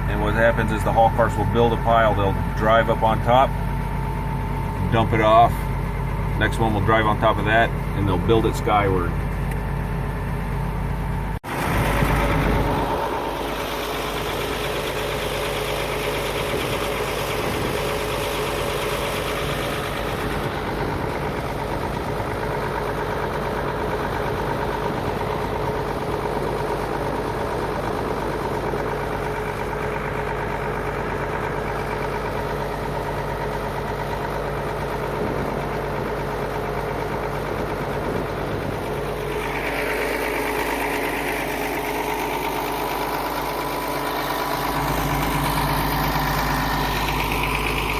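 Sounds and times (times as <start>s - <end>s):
tractor engine droning: 0.0s - 47.9s.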